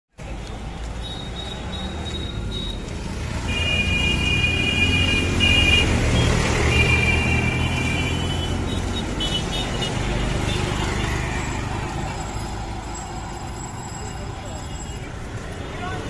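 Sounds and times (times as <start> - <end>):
road traffic: 0.1 - 16.0.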